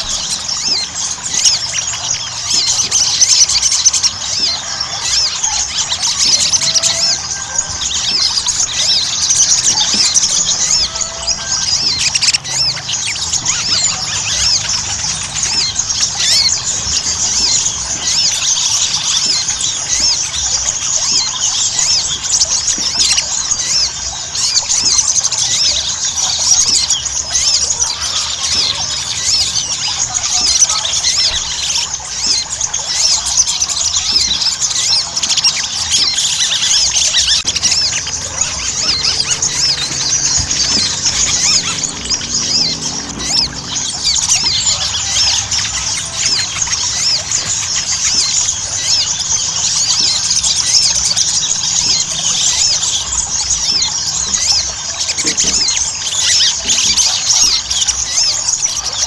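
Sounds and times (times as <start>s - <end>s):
sunbird twittering: 0.0s - 59.0s.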